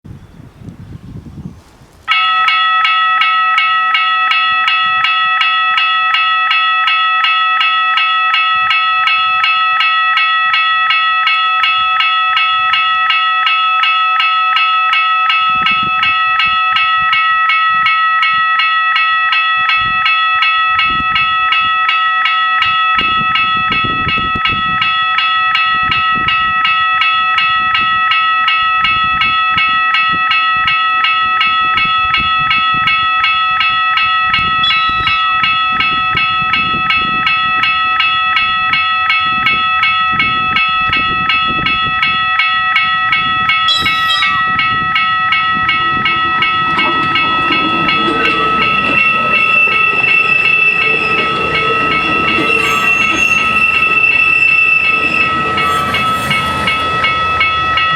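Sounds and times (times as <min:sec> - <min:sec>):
diesel railcar approaching: 0:00.1 - 0:57.9
level crossing warning bells: 0:02.1 - 0:57.9.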